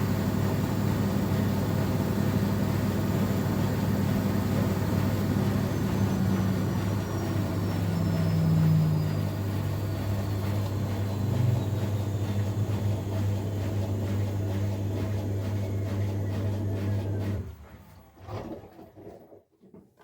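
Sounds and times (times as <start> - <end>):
washing machine spin hum: 0.0 - 18.5.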